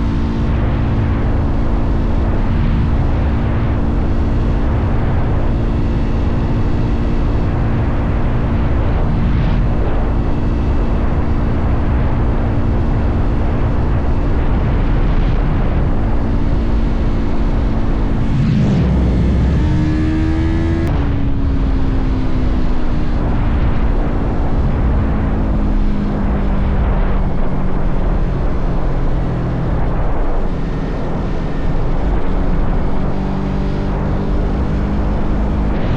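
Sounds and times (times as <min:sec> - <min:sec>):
motorcycle engine cruising: 0:00.0 - 0:35.9
wind rumble on microphone: 0:00.0 - 0:35.9.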